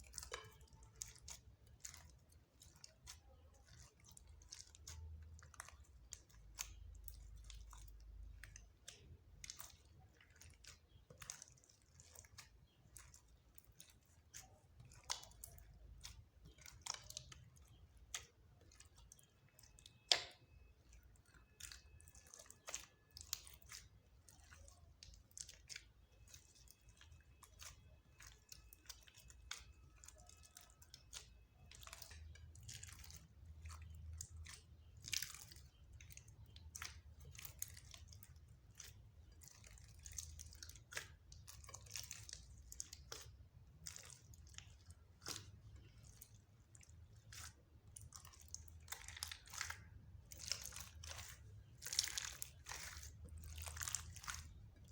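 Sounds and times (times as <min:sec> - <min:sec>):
wet clicks and crackles: 0:00.0 - 0:54.9.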